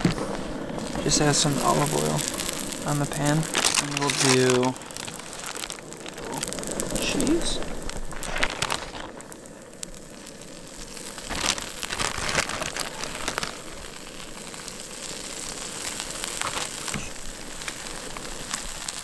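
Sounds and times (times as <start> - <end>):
bread sizzling in oil: 0.0 - 19.0
plastic bag crinkling: 0.0 - 19.0.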